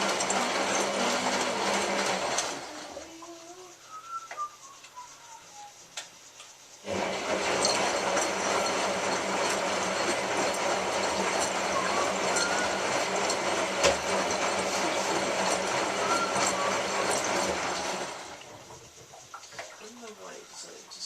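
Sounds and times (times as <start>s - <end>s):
washing machine running: 0.0s - 4.2s, 6.8s - 21.0s.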